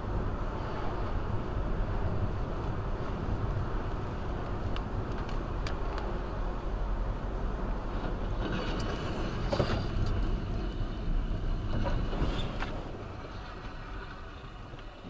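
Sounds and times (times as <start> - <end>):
tyre and engine noise on wet road: 0.0 - 15.0.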